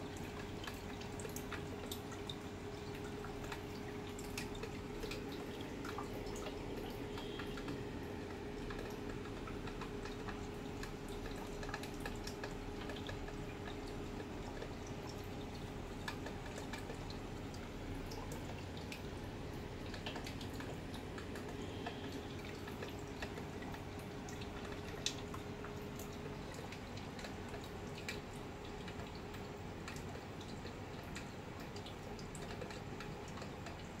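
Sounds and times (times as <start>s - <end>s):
water trickling and dripping: 0.0s - 34.0s.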